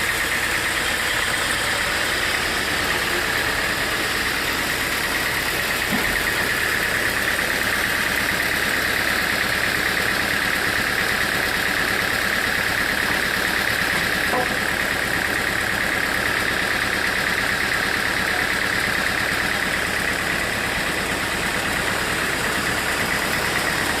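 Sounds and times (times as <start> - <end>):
sawmill machinery drone: 0.0 - 24.0.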